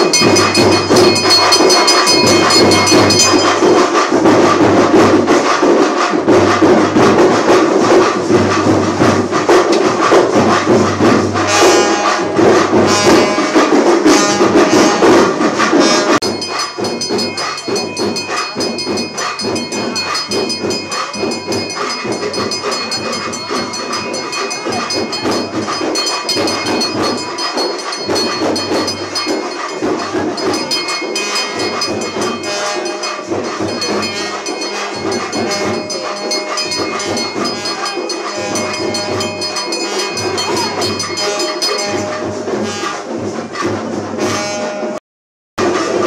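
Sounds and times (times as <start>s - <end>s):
low repeating beat: 0.0s - 44.5s
temple bells clanging: 0.0s - 45.0s.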